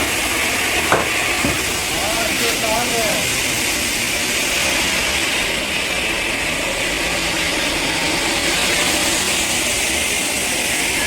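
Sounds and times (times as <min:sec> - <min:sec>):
machinery hiss: 0:00.0 - 0:11.0.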